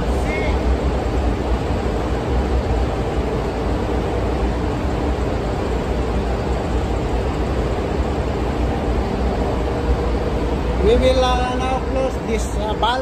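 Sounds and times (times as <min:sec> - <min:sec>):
engine room machinery drone: 0:00.0 - 0:13.0.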